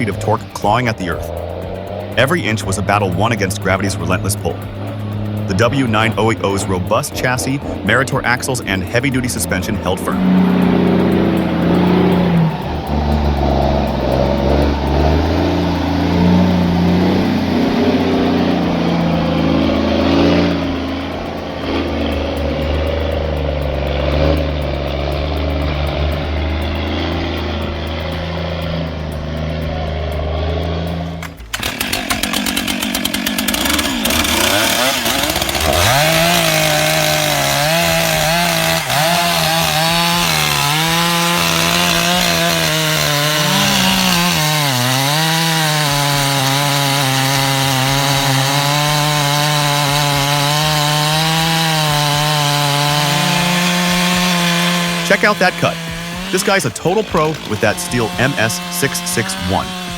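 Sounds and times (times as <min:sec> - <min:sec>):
chainsaw revving and cutting: 0:00.0 - 0:59.9
heavy engine running: 0:00.0 - 0:59.9.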